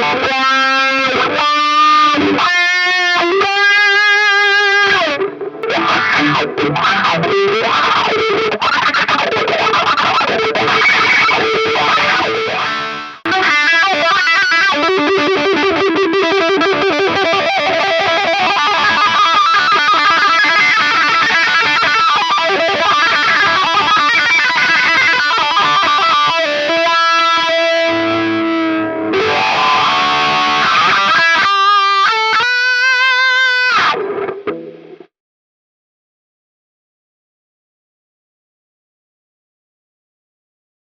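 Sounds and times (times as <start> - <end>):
distorted electric guitar with wah: 0.0 - 35.1.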